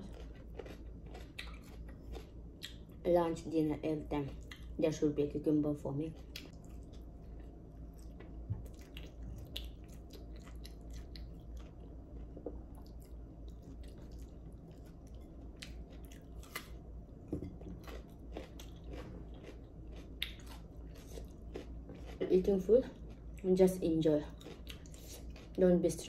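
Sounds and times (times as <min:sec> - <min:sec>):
person chewing crunchy food: 0:00.0 - 0:03.0, 0:06.2 - 0:23.5, 0:24.3 - 0:25.6.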